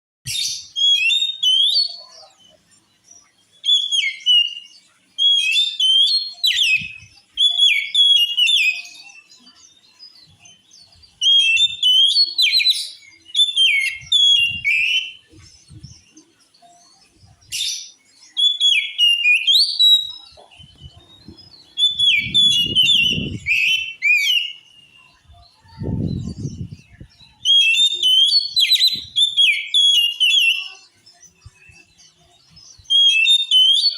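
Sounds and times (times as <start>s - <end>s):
bird singing whistled phrases: 0.3s - 2.4s, 3.6s - 9.8s, 11.2s - 15.9s, 17.3s - 31.9s, 32.7s - 33.9s.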